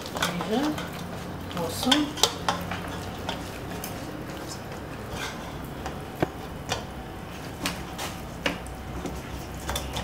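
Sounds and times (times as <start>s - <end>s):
utensils and dishes clicking: 0.0s - 6.9s, 7.6s - 10.0s.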